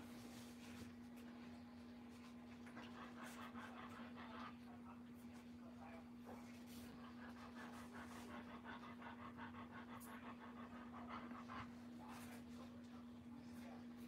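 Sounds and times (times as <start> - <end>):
steady low hum: 0.0 - 14.0
dog panting fast: 2.2 - 13.9.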